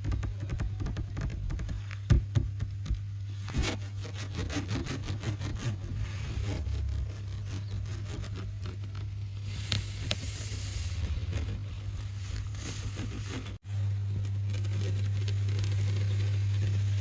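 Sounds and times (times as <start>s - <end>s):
steady low hum: 0.0s - 17.0s
rubbing on a textured surface: 3.2s - 17.0s.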